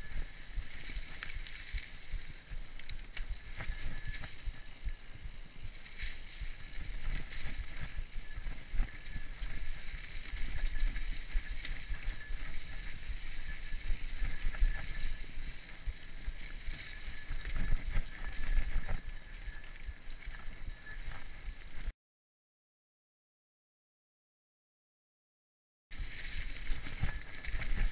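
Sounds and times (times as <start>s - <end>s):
bike rattling over bumps: 0.0s - 21.9s, 25.9s - 27.9s
bike tyres rolling on leaves: 0.0s - 21.9s, 25.9s - 27.9s
wind on microphone: 0.0s - 21.9s, 25.9s - 27.9s.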